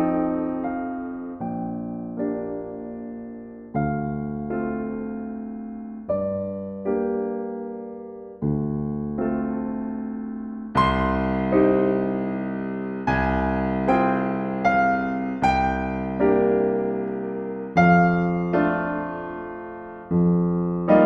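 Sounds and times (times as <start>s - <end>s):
soft slow piano chords: 0.0s - 21.0s.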